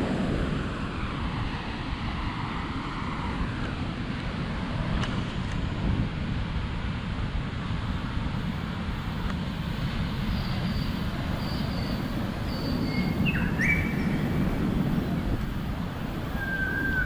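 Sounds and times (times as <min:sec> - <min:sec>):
ocean surf on beach: 0:00.0 - 0:17.0
wind on microphone: 0:00.0 - 0:17.0.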